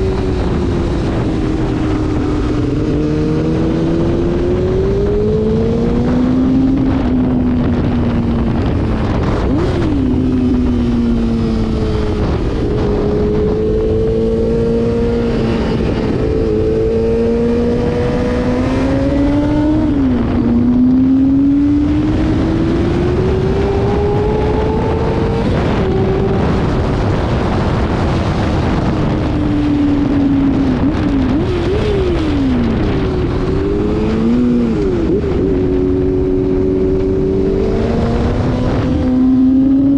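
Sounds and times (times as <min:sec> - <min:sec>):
motorcycle engine at speed: 0:00.0 - 0:39.9.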